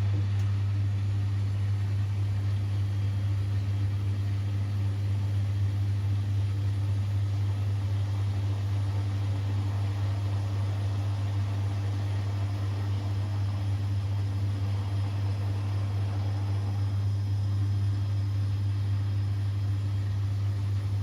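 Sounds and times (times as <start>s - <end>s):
washing machine humming: 0.0s - 21.0s.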